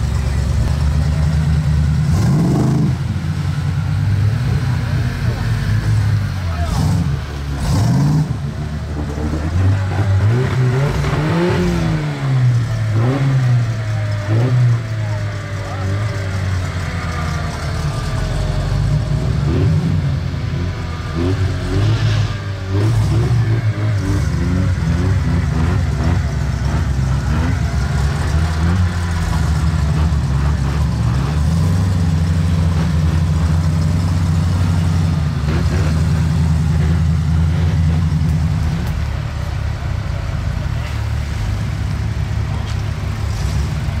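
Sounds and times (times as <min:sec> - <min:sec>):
engine revving: 0:00.0 - 0:44.0.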